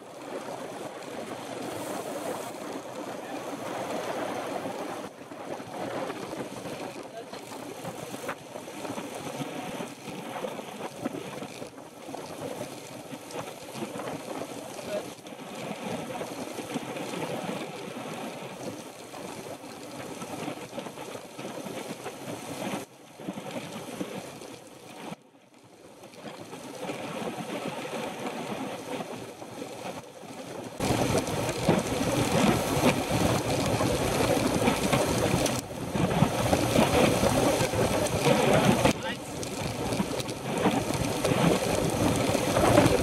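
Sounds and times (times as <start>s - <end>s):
wind rushing over microphone: 0.0s - 25.0s, 25.8s - 43.0s.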